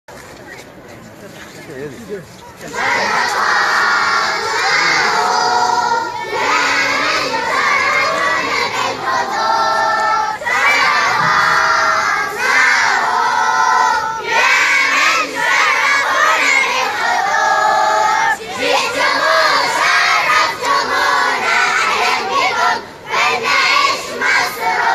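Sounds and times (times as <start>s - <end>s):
children chanting in unison: 2.7s - 24.9s.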